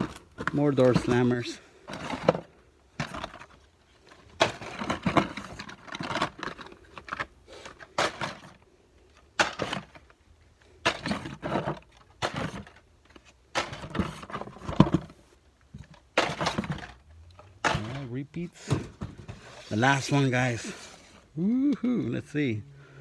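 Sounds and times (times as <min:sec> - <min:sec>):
plastic packs rustling and scraping: 0:00.0 - 0:21.4.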